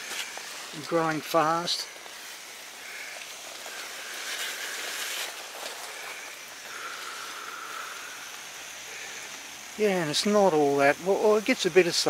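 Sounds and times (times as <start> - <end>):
water spraying onto mulch: 0.0 - 12.0.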